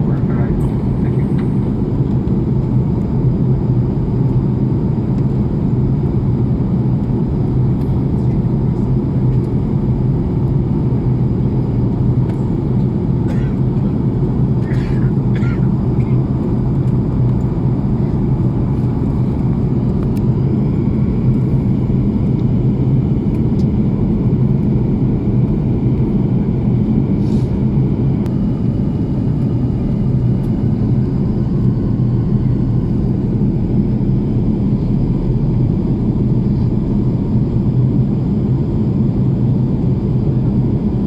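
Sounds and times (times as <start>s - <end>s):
airplane rumble: 0.0s - 41.0s.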